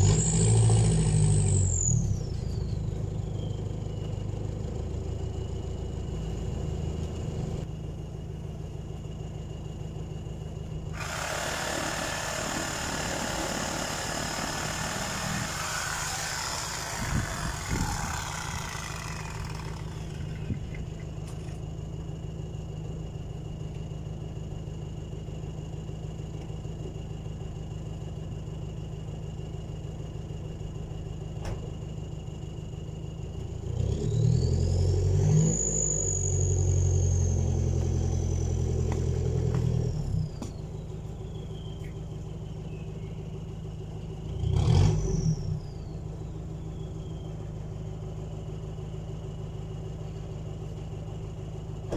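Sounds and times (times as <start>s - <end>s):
diesel engine idling and revving: 0.0s - 51.9s.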